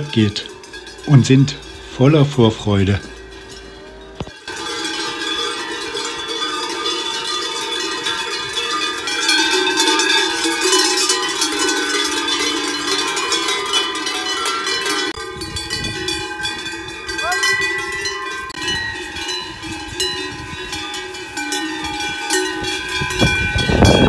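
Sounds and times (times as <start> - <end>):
cowbells ringing and clanging: 0.0 - 24.0.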